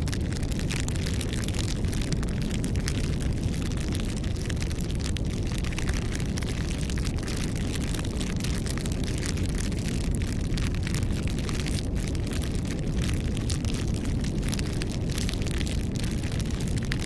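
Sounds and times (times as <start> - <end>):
campfire crackling and popping: 0.0 - 17.0
low fire rumble: 0.0 - 17.0.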